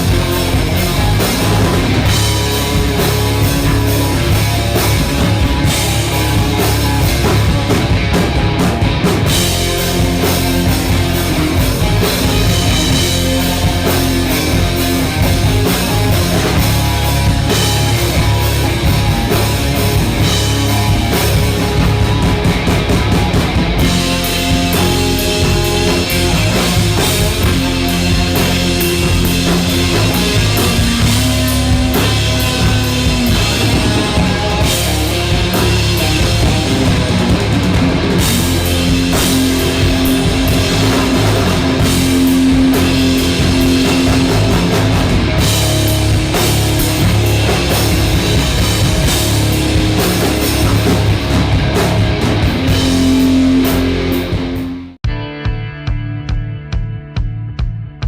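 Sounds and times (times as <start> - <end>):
heavy metal rock music: 0.0 - 58.0.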